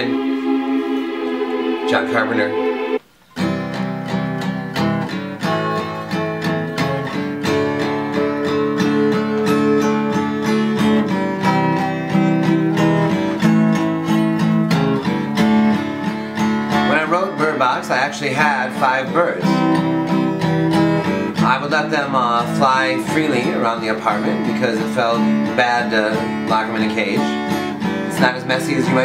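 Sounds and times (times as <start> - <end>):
acoustic guitar music: 0.0 - 29.0.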